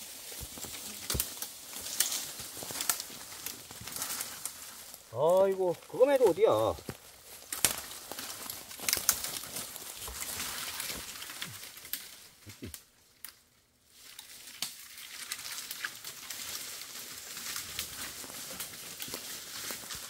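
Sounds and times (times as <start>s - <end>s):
branches snapping: 0.0s - 20.0s
dry branches rustling and crackling: 0.0s - 20.0s.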